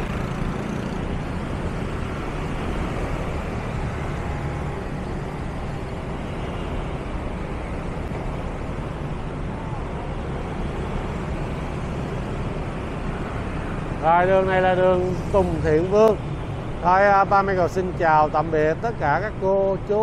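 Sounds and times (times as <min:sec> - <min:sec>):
street traffic with engine hum: 0:00.0 - 0:20.0.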